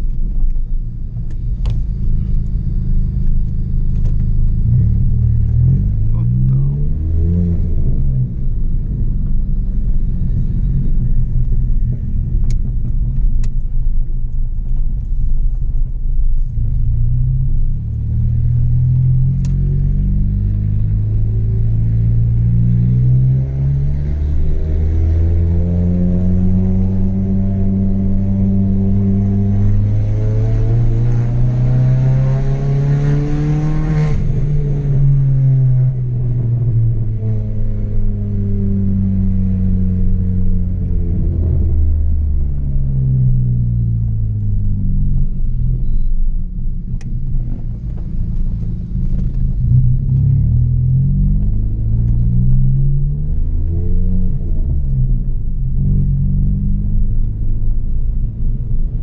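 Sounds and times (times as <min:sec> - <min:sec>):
car engine rumbling drone: 0:00.0 - 0:59.0.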